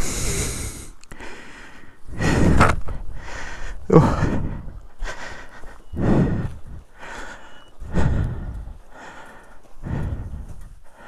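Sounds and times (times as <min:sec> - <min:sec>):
person breathing heavily: 0:00.0 - 0:11.0.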